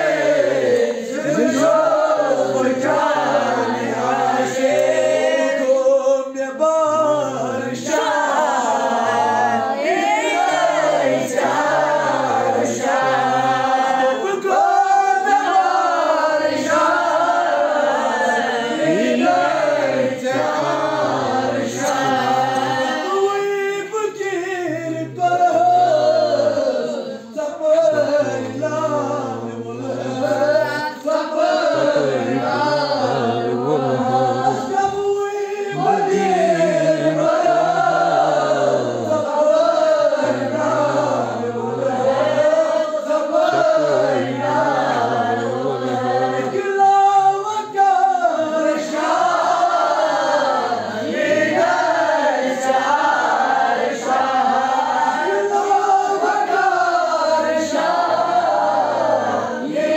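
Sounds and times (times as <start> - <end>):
group singing a chant: 0.0 - 59.9.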